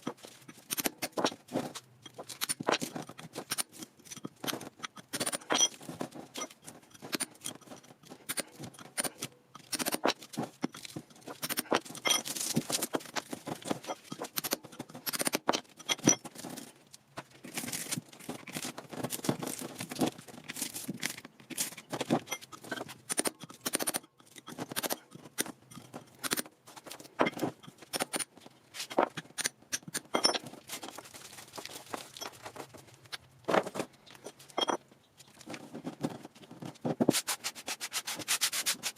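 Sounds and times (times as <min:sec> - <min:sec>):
metal parts clinking and scraping: 0:00.0 - 0:37.2.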